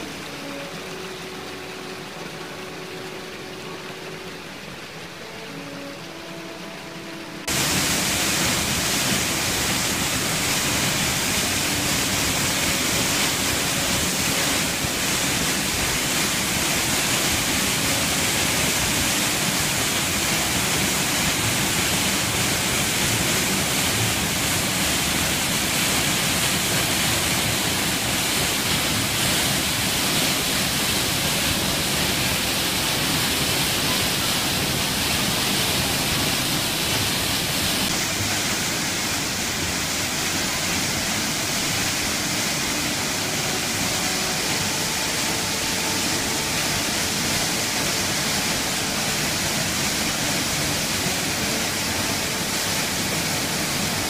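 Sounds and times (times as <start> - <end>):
waterfall pouring onto rocks: 0.0 - 54.0.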